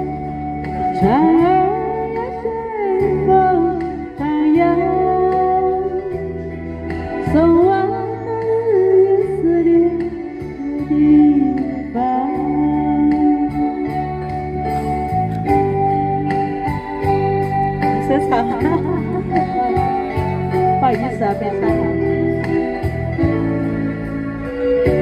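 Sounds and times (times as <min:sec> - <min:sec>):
backing track: 0:00.0 - 0:25.0
woman singing into microphone: 0:00.0 - 0:25.0.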